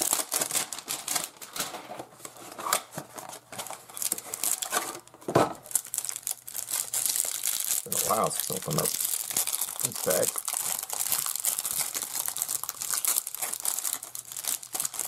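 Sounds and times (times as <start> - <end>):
plastic wrapper crinkling and tearing: 0.0 - 1.9, 2.5 - 15.0.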